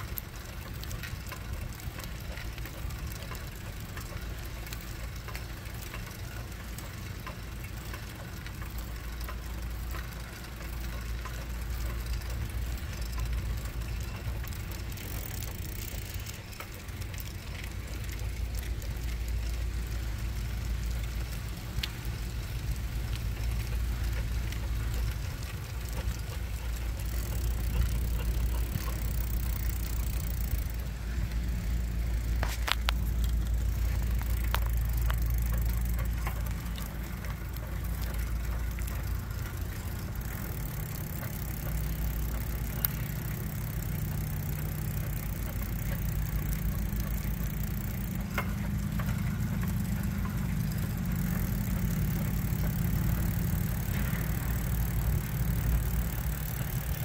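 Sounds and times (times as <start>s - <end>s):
faint clicks: 0.0s - 57.0s
low rumble of wind: 0.0s - 57.0s.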